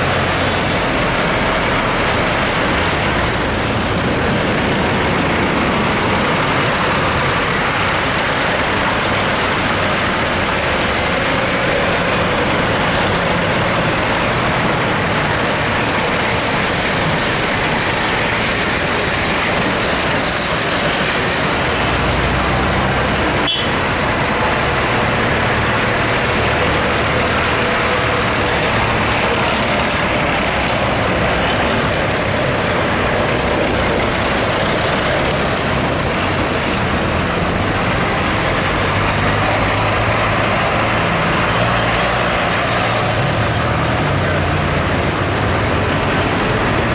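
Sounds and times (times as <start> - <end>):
tractor and car engines: 0.0 - 46.9.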